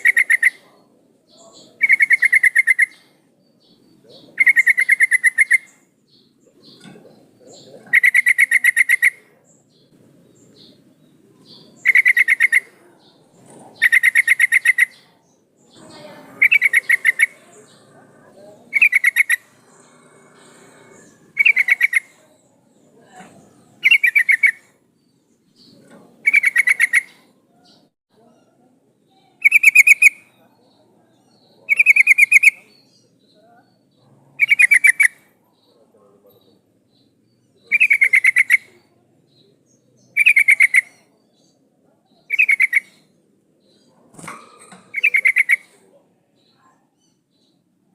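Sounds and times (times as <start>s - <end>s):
bird chattering call: 0.0s - 24.8s, 25.5s - 27.9s, 29.3s - 30.4s, 31.2s - 35.7s, 36.4s - 45.9s.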